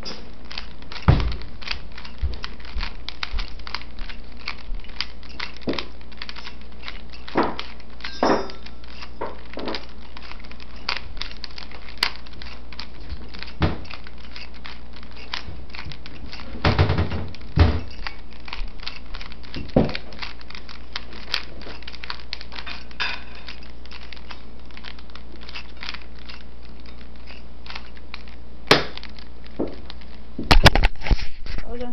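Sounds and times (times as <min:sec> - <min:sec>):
puzzle cube clicking and rattling: 0:00.0 - 0:31.6.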